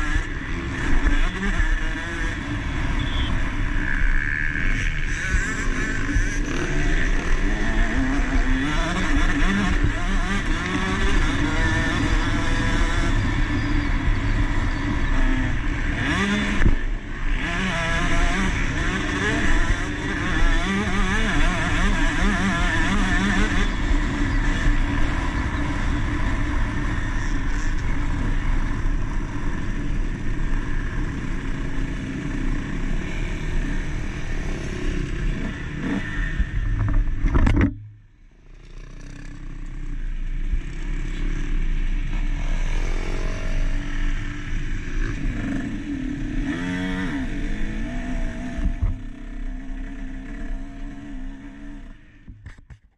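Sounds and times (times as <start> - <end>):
two-stroke motorbike engine revving: 0.0 - 37.8, 38.4 - 52.4.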